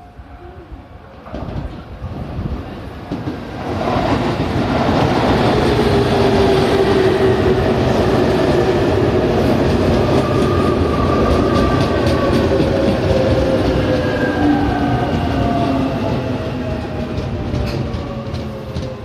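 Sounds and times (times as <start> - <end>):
train wheels rumbling on rails: 1.0 - 19.0.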